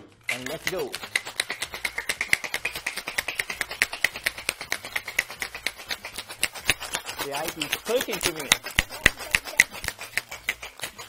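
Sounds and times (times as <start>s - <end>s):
ice rattling in cocktail shaker: 0.2s - 11.0s.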